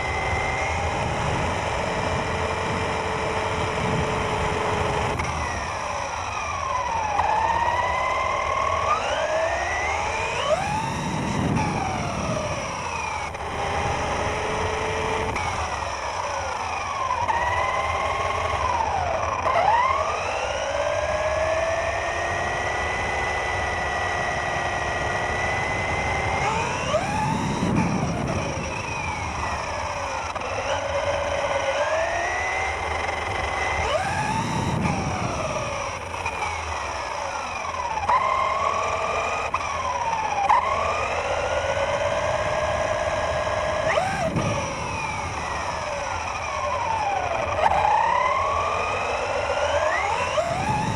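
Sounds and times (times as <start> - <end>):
rc car motor whining: 0.0 - 50.9.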